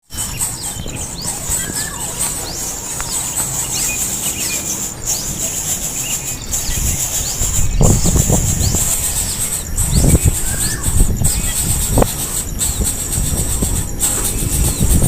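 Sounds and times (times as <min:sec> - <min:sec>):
high bird chirps: 0:00.0 - 0:15.0
insect drone: 0:00.0 - 0:15.0.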